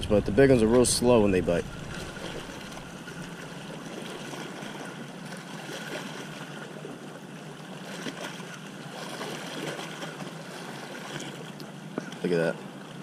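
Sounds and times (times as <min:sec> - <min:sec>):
water: 0:00.0 - 0:13.0
wind: 0:00.0 - 0:13.0.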